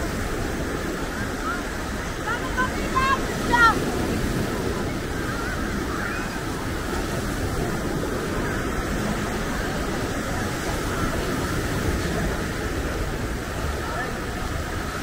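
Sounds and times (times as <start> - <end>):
faint voices: 0.0 - 15.0
surf washing: 0.0 - 15.0.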